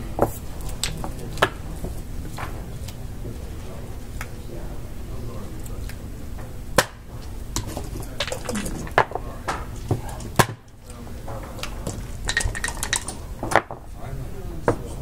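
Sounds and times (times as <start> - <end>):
murmur of voices: 0.0 - 15.0.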